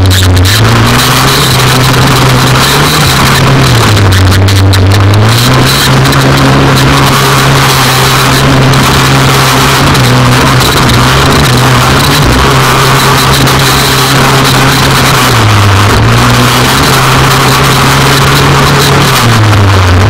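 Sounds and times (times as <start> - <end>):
buggy engine running hard: 0.0 - 20.0.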